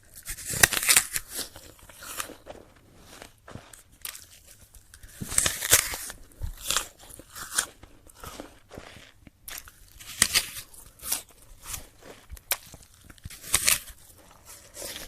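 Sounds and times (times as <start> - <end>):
crunchy apple being chewed: 0.0 - 15.0.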